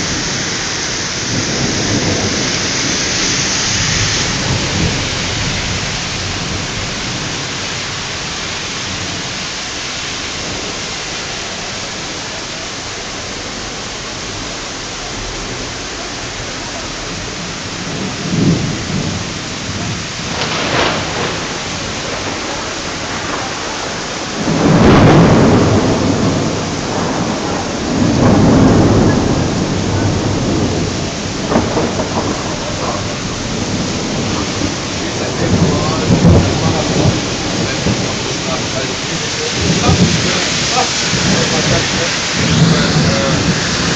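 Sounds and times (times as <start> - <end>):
heavy rain falling: 0.0 - 43.9
thunder rumbling: 0.0 - 43.9.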